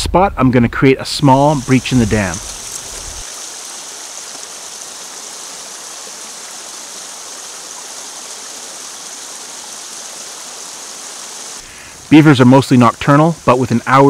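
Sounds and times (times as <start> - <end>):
water running through dam breach: 1.2 - 14.0.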